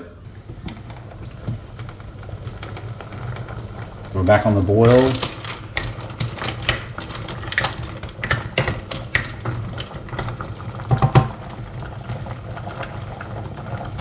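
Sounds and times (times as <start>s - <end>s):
sauce bubbling: 0.1s - 14.0s.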